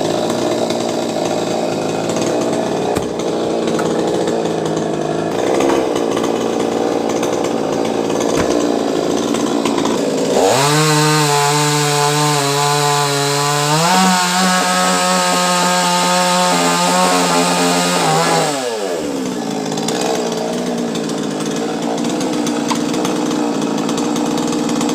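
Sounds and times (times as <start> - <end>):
chainsaw revving: 0.0 - 24.9.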